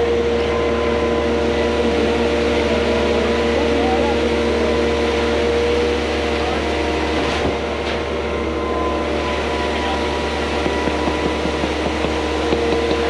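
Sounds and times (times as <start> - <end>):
pump truck engine running: 0.0 - 13.0.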